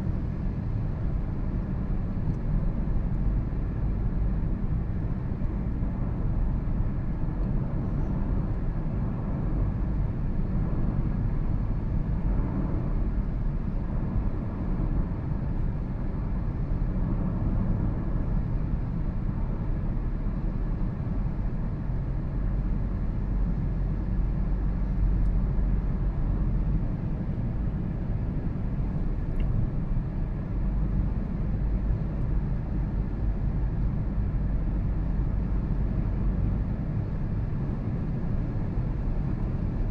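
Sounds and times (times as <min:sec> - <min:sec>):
car road and running noise: 0:00.0 - 0:39.9.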